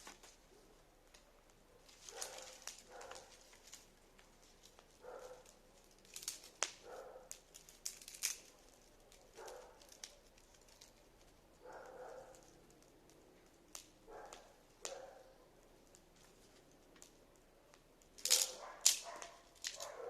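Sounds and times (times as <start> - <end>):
sharp clicks and crackles: 0.0 - 20.0.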